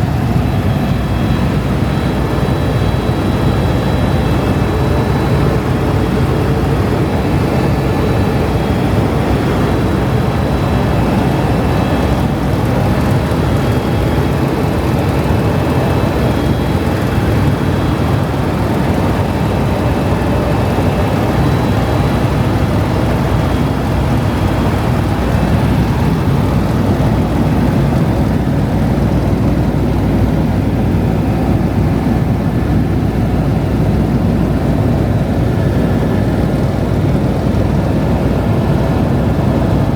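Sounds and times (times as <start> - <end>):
helicopter rotor and engine drone: 0.0 - 39.9
high turbine whine: 0.0 - 39.9.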